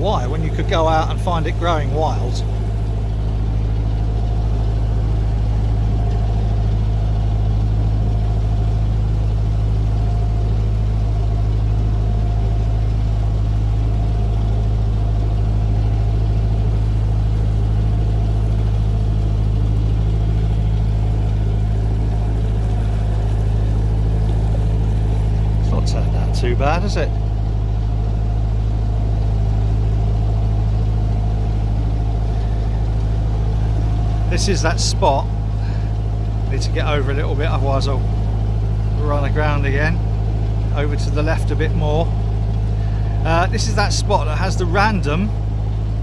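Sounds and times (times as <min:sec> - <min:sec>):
boat diesel engine droning: 0:00.0 - 0:46.0.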